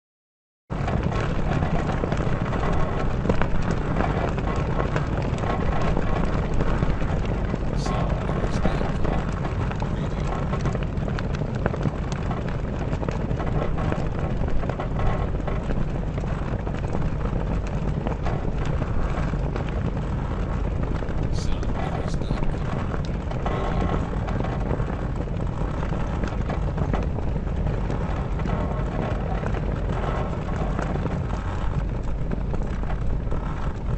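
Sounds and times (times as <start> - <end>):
sails flapping in wind: 0.7 - 33.9.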